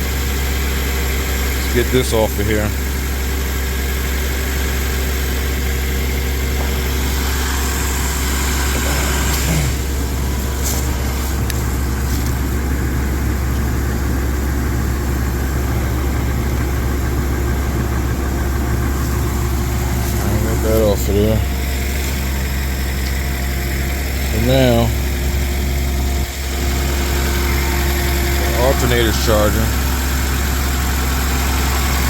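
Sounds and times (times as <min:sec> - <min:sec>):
car engine idling rough: 0:00.0 - 0:32.0.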